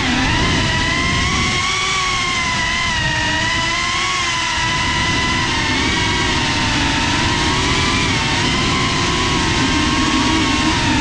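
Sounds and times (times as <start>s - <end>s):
drone motors whining: 0.0s - 11.0s
wind rush: 0.0s - 11.0s.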